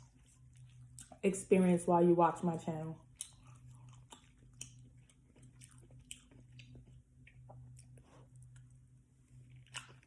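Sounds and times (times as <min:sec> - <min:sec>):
person chewing noodles: 0:00.0 - 0:01.2, 0:03.0 - 0:10.0
steady low hum: 0:00.0 - 0:10.0.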